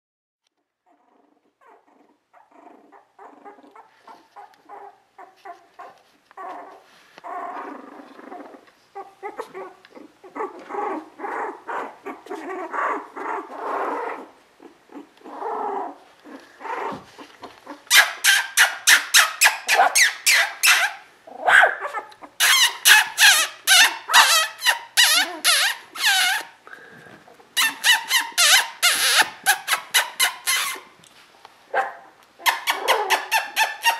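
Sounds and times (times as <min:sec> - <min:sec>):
puppies whimpering and squealing: 0:00.8 - 0:21.1, 0:21.7 - 0:26.6, 0:27.6 - 0:30.9, 0:32.4 - 0:33.9.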